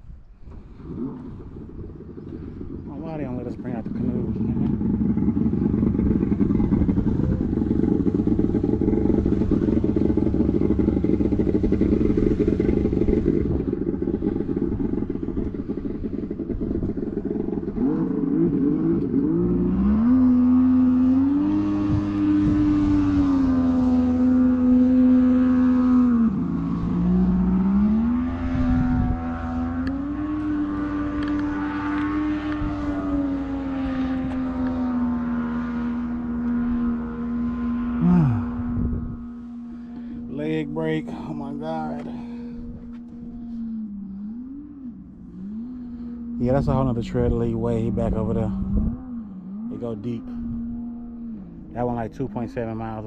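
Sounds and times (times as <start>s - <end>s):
motorboat engine running: 0.0s - 53.0s.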